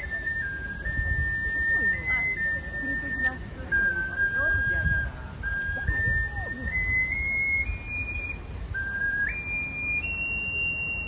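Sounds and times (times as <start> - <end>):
ocarina playing slow melody: 0.0 - 11.0.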